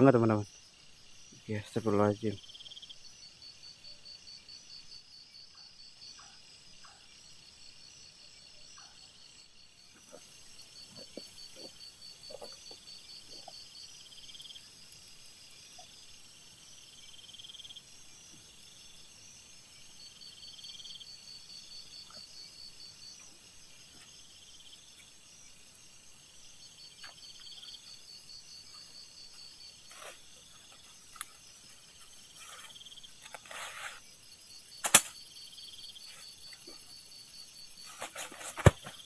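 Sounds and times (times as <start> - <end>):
insects trilling: 0.0 - 39.0.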